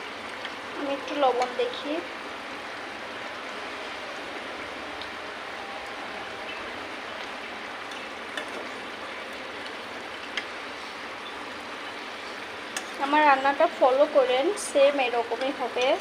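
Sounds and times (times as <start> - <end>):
curry bubbling and sizzling in pot: 0.0 - 16.0.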